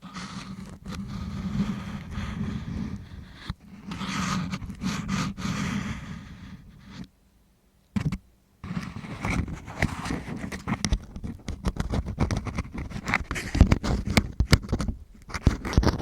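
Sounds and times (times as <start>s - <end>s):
scratchy scraping at microphone: 0.0s - 7.1s, 8.0s - 16.0s.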